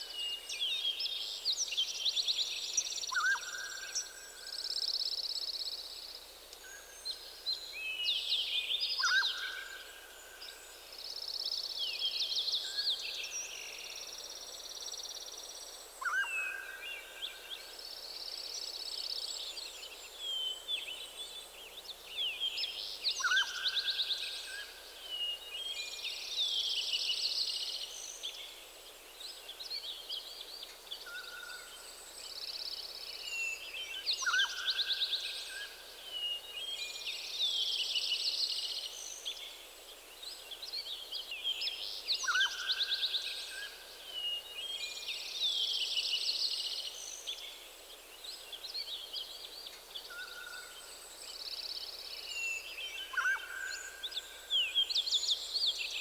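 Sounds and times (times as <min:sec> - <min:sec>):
soft steady hiss: 0:00.0 - 0:56.0.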